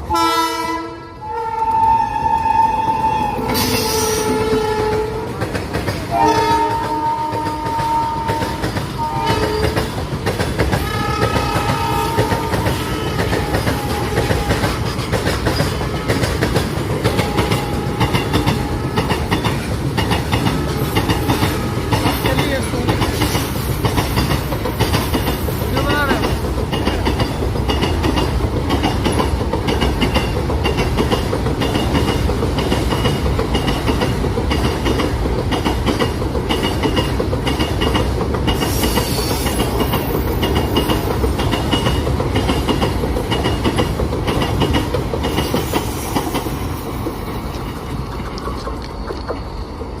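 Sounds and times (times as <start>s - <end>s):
train running rumble: 0.0s - 50.0s
train wheels clattering over rail joints: 3.4s - 50.0s.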